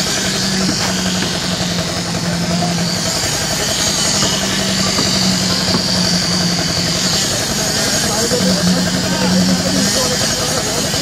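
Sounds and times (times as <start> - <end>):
concrete vibrator engine drone: 0.0 - 11.0
high steady whine: 0.0 - 11.0.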